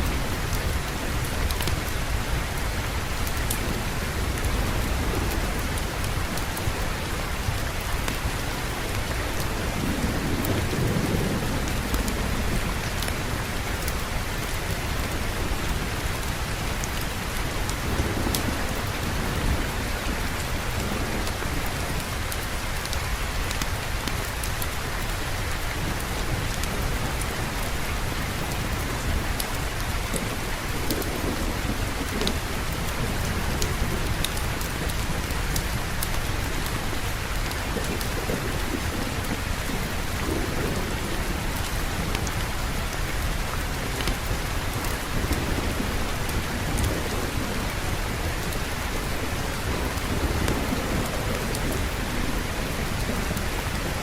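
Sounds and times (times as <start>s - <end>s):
low thunder rumbling: 0.0s - 54.0s
steady rainfall: 0.0s - 54.0s.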